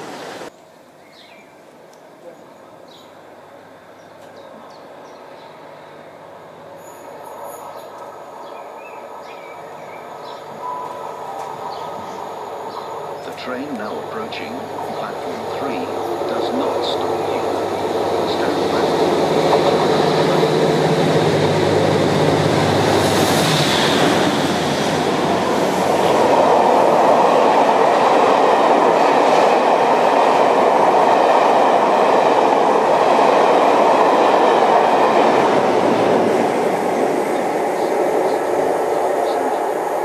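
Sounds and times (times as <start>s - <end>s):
diesel locomotive engine passing: 3.1s - 40.0s.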